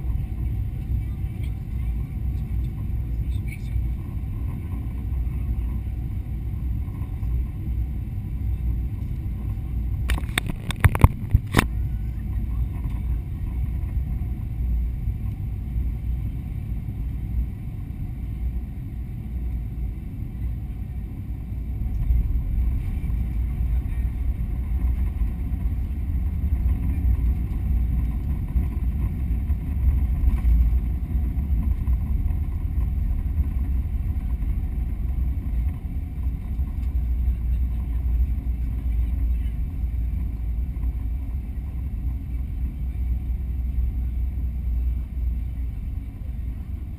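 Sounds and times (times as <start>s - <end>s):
low rumble of engines and airflow: 0.0s - 46.9s.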